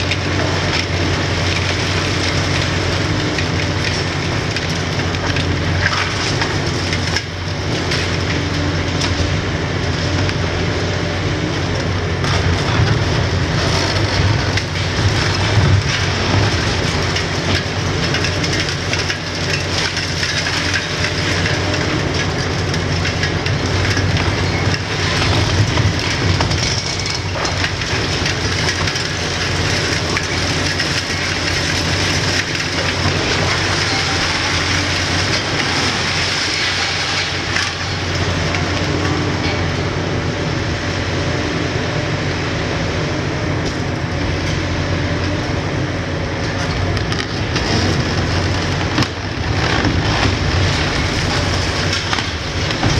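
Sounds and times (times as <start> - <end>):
rubble cracking and clattering: 0.0 - 10.7, 11.7 - 40.1, 46.2 - 52.9
hydraulic crusher crunching concrete: 0.0 - 42.2, 43.4 - 52.9
diesel excavator engine under load: 0.0 - 52.9.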